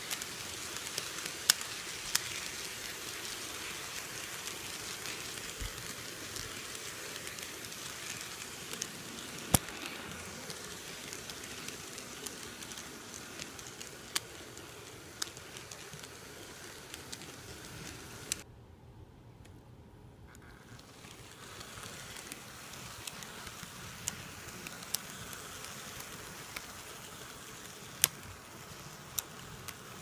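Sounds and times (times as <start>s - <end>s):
model train rattling hiss: 0.0s - 18.4s, 20.4s - 30.0s.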